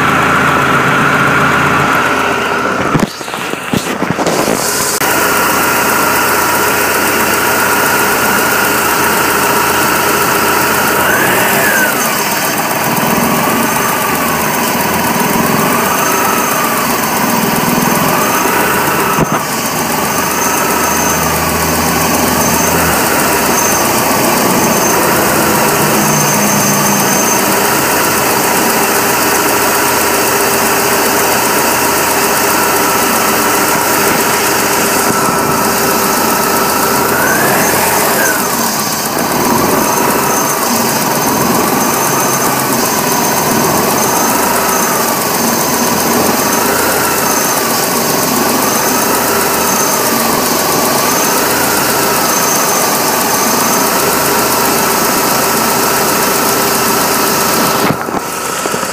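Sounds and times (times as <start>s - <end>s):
car engine idling rough: 0.0s - 58.9s
engine whine: 0.0s - 58.9s.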